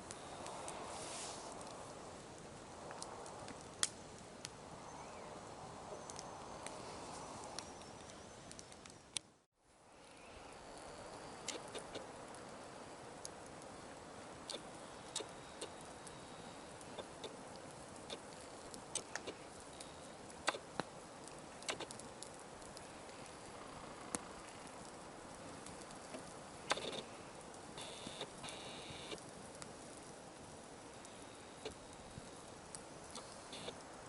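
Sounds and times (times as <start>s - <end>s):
campfire crackling and popping: 0.0s - 9.4s, 10.0s - 34.0s.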